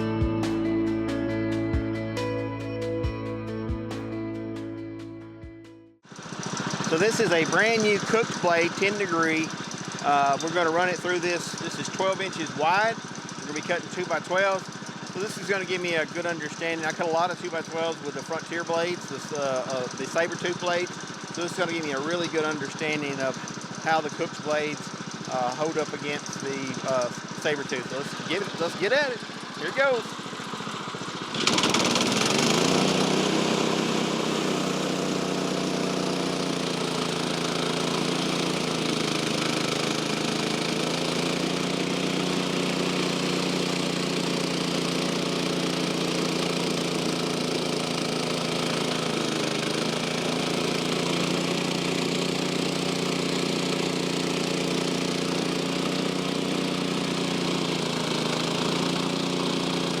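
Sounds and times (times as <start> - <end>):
small gasoline engine running: 6.0 - 60.0.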